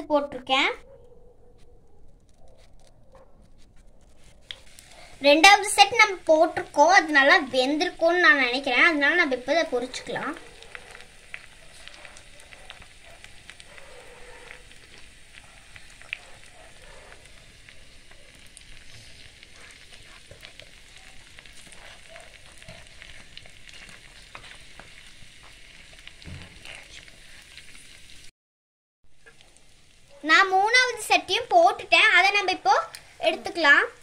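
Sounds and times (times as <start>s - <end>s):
food deep-frying in oil: 2.2s - 28.3s, 29.1s - 34.0s.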